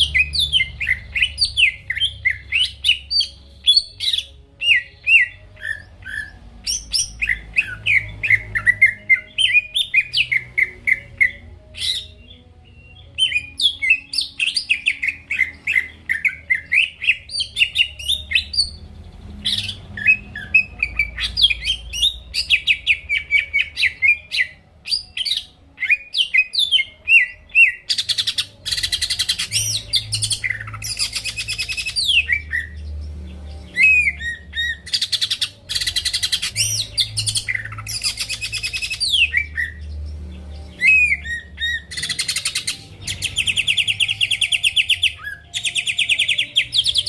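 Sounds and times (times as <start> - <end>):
bird singing with chattering trills: 0.0 - 47.0.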